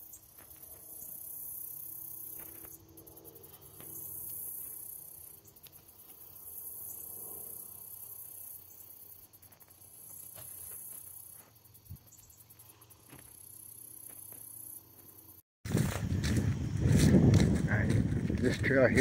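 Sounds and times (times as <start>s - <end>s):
insects singing high-pitched chorus: 0.0s - 15.4s.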